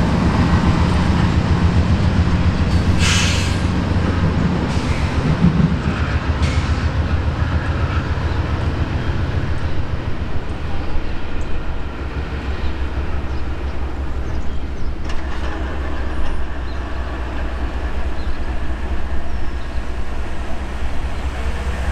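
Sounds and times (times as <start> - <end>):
freight train rumbling: 0.0 - 21.9
wheels clattering over rails: 0.0 - 21.9.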